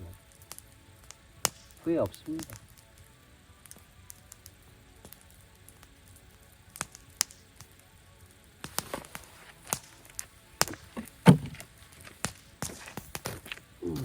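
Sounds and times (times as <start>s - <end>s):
campfire crackling and popping: 0.0s - 14.0s
soft low hiss: 0.0s - 14.0s.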